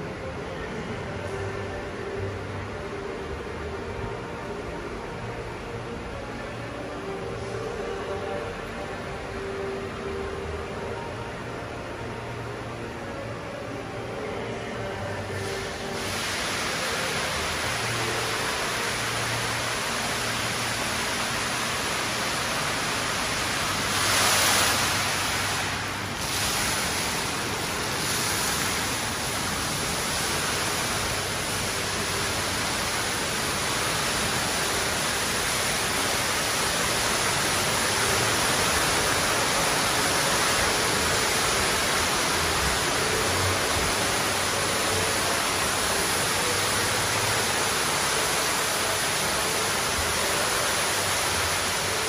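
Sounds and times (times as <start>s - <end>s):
water feature rushing: 0.0s - 52.0s.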